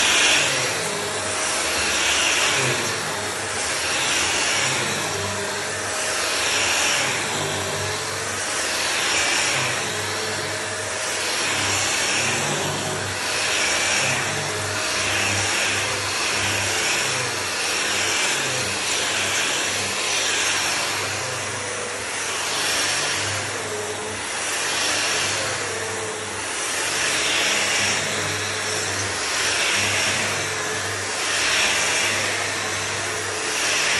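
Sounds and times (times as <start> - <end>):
floor sanding machine running: 0.0 - 33.9.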